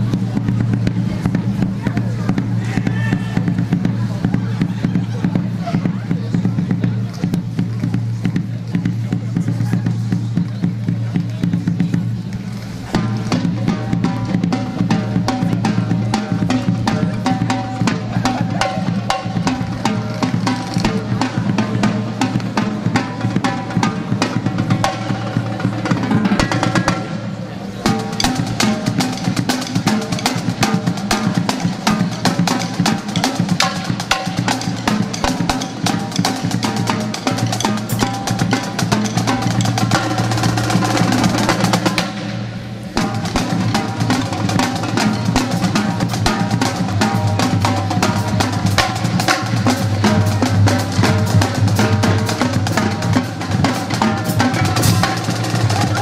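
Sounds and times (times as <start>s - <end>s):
bass drum beats: 0.0s - 56.0s
snare drum strokes and rolls: 0.0s - 56.0s.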